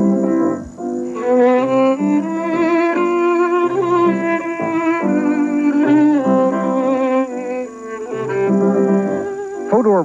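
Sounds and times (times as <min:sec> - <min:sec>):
solo violin slow melody: 0:00.0 - 0:10.0.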